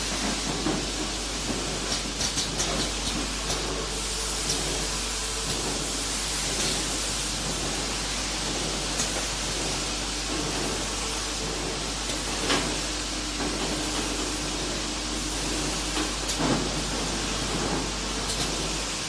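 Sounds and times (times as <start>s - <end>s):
can filling line hiss: 0.0s - 19.0s.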